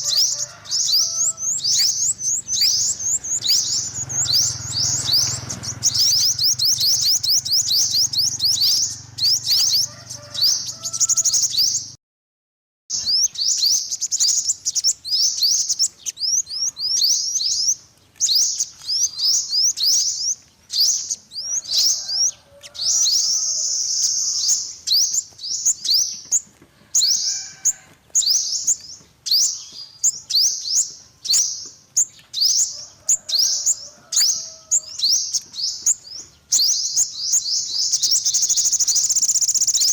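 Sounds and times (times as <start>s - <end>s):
bird singing high chirps and trills: 0.0s - 12.0s, 12.9s - 39.9s.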